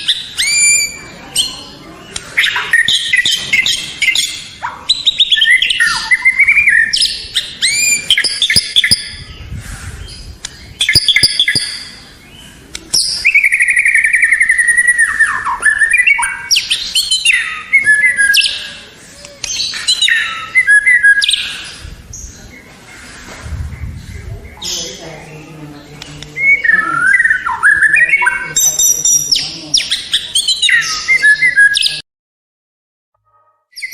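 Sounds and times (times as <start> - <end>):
songbird whistles and trills: 0.0 - 22.4, 26.2 - 32.0, 33.6 - 33.9.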